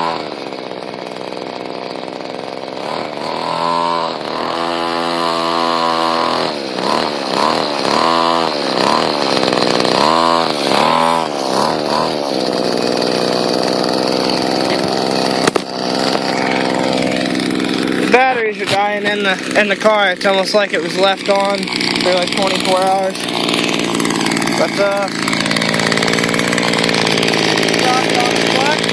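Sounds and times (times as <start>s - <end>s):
two-stroke engine revving: 0.0s - 28.9s.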